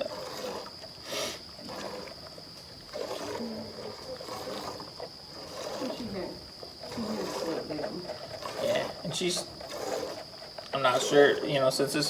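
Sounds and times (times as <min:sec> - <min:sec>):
milk squirting into pail: 0:00.0 - 0:12.0.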